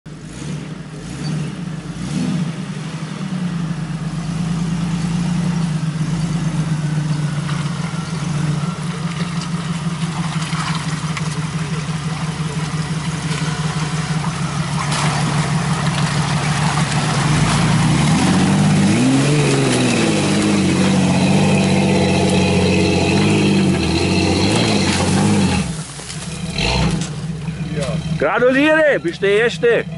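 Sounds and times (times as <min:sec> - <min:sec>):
vehicle engine revving: 0:00.1 - 0:29.9.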